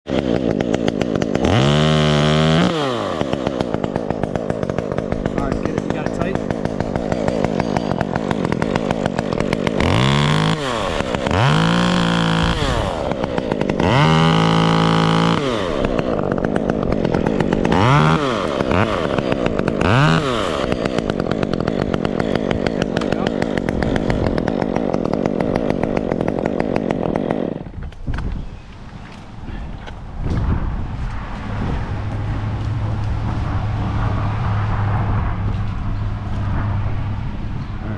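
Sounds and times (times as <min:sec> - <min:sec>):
chainsaw idling and revving: 0:00.0 - 0:28.2, 0:31.0 - 0:34.5.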